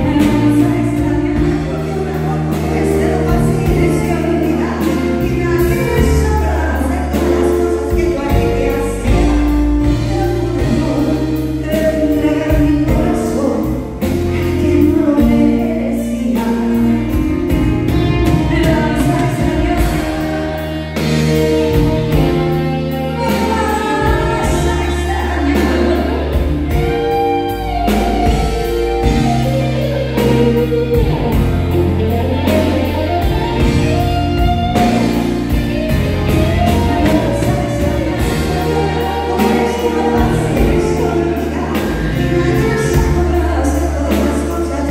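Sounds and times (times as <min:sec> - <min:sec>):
live band playing: 0:00.0 - 0:44.9
woman singing into a microphone: 0:00.0 - 0:44.9.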